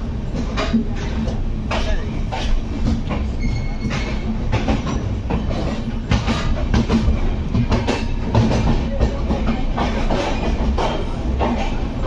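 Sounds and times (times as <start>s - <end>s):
train rumbling: 0.0s - 12.0s
wheels clacking over rail joints: 0.0s - 12.0s.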